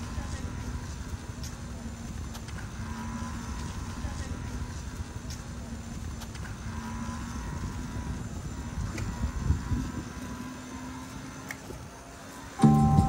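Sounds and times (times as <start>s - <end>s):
low traffic rumble: 0.0s - 13.0s
vehicle engine hum: 0.0s - 13.0s.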